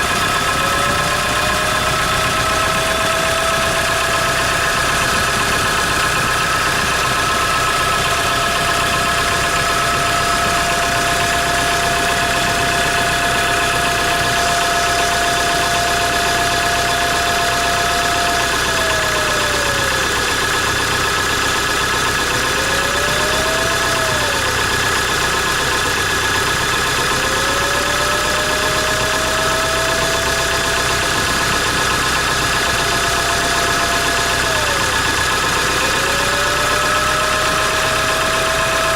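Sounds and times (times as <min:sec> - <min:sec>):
engine idling: 0:00.0 - 0:38.9
turbocharger whistle: 0:00.0 - 0:38.9.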